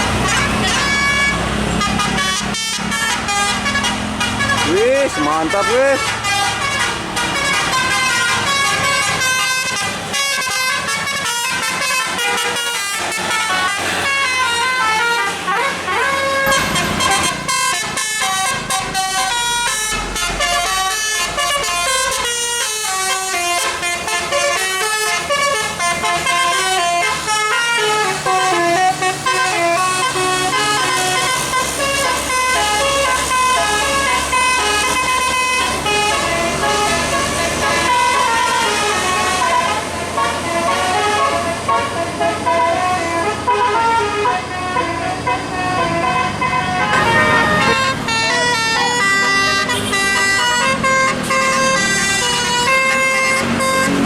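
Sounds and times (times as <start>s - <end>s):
musical bus air horn tune: 0.0s - 54.0s.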